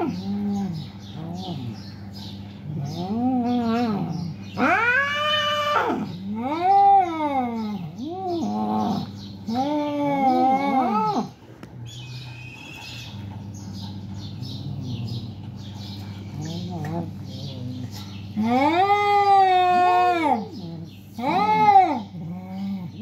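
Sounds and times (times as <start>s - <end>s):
cats yowling: 2.6s - 23.0s.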